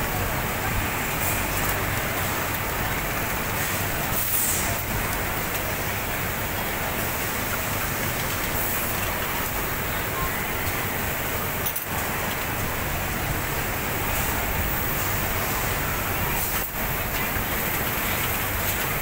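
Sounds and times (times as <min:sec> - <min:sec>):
industrial sewing machines running: 0:00.0 - 0:19.0.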